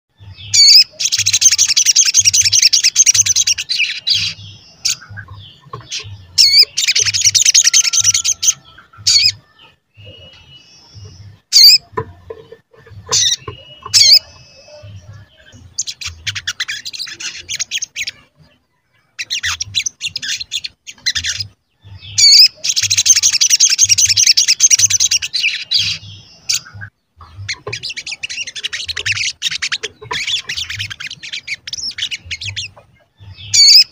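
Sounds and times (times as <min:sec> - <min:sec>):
bird twittering song: 0:00.1 - 0:33.9.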